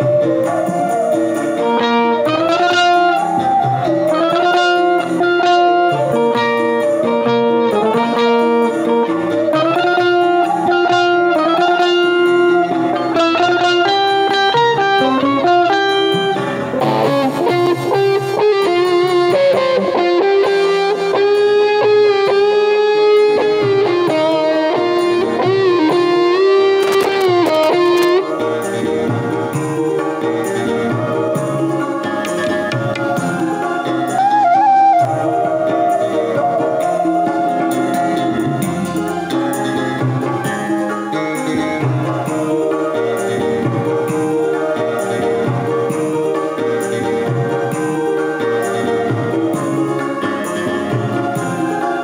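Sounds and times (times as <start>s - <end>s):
lead guitar melody: 0.0s - 52.0s.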